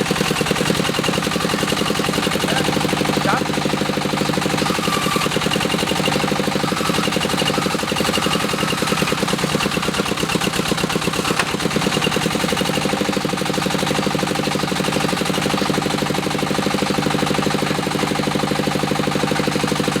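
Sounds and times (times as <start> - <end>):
diesel engine chugging: 0.0 - 20.0.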